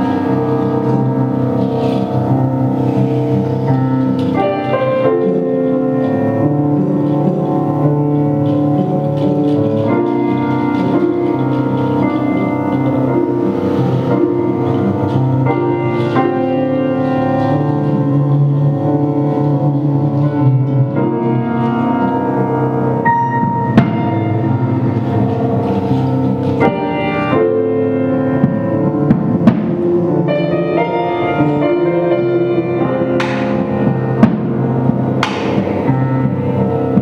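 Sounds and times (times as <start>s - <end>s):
improvised ensemble music: 0.0s - 37.0s.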